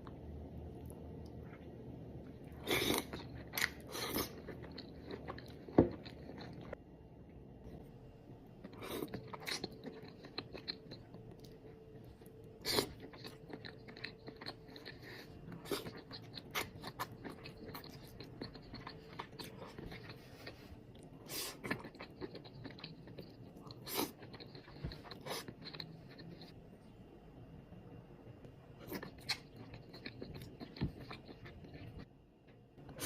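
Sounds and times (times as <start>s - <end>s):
person chewing: 0.8s - 6.8s, 8.6s - 26.6s, 28.8s - 32.1s.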